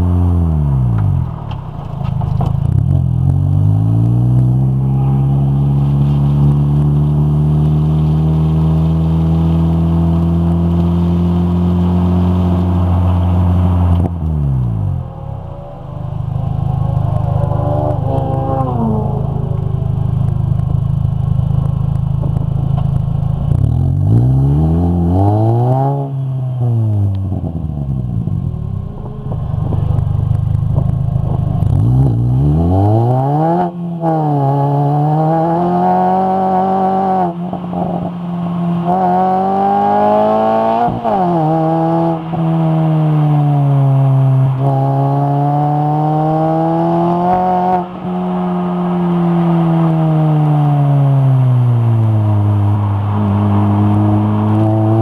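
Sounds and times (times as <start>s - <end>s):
racing car engine revving: 2.1s - 55.0s
car accelerating through gears: 2.7s - 20.7s, 23.5s - 55.0s.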